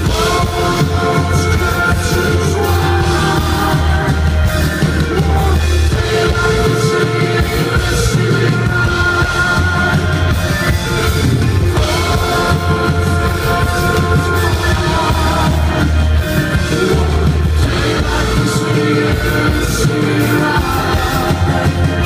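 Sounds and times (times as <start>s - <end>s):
live rock band playing: 0.0s - 22.0s
man singing lead vocal: 0.0s - 22.0s.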